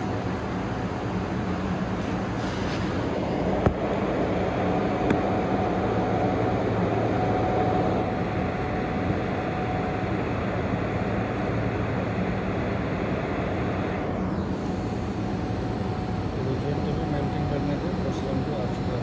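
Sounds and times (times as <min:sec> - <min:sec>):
faint steady whine: 0:00.0 - 0:19.0
welding machine hum and hiss: 0:00.0 - 0:19.0.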